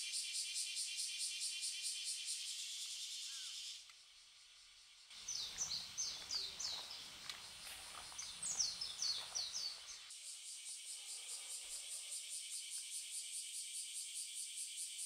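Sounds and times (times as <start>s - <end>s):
songbird singing: 0.0s - 13.6s.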